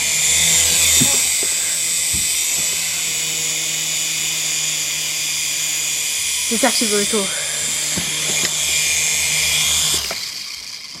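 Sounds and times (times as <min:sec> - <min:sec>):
toy helicopter motor whine: 0:00.0 - 0:11.0.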